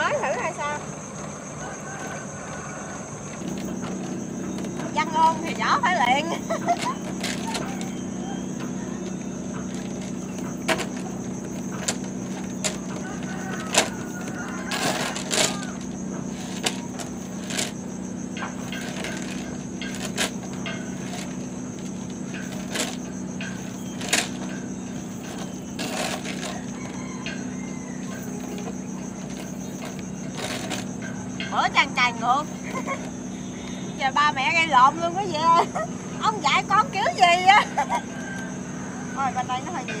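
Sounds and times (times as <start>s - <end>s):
small boat engine running: 0.0s - 40.0s.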